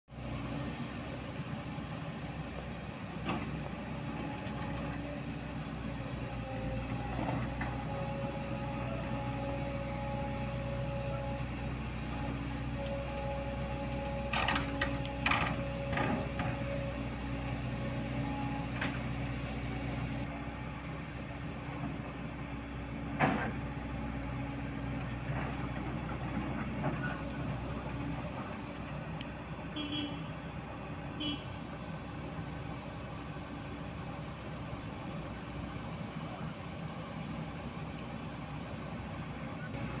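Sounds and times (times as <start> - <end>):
excavator diesel engine running: 0.1 - 40.0.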